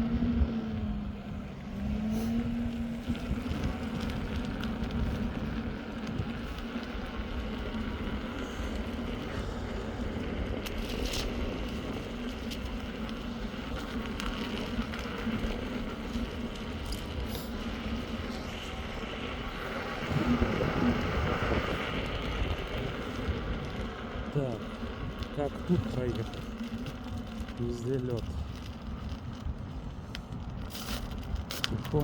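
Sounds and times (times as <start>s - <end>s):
electric motor whine: 0.0s - 29.3s
tyre and wind rumble: 0.0s - 32.0s.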